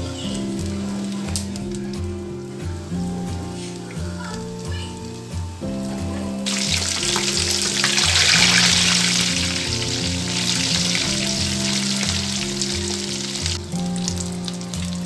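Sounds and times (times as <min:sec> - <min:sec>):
background music with steady beat: 0:00.0 - 0:15.0
meat sizzling in hot oil: 0:00.0 - 0:15.0.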